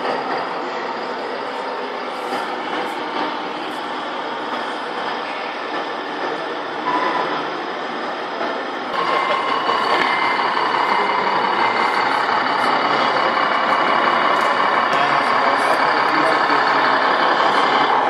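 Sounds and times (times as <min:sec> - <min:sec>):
simulated truck engine sound: 0:00.0 - 0:18.0.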